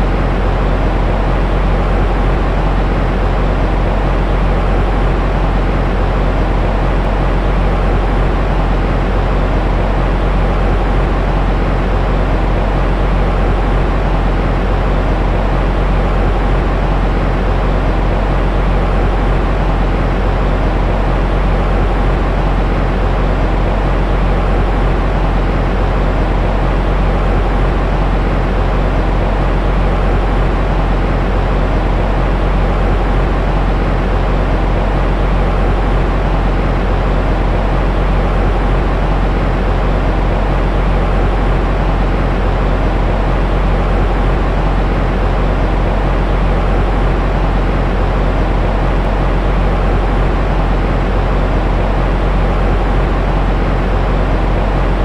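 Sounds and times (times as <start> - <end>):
deep rumbling white noise: 0.0 - 55.0.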